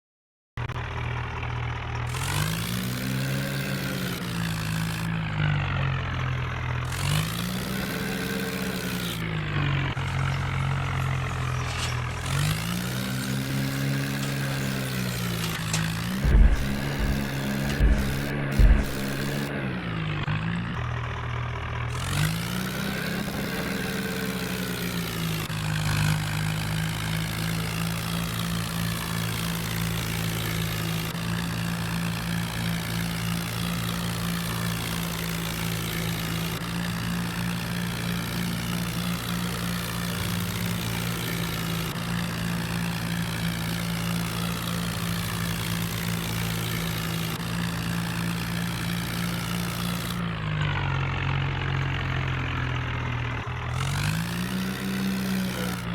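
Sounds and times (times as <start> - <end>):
tractor engine running: 0.8 - 55.9.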